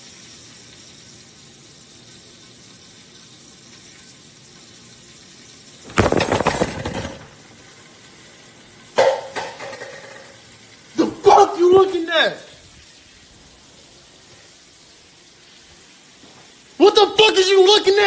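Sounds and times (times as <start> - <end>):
frying pan sizzling: 0.0 - 18.0.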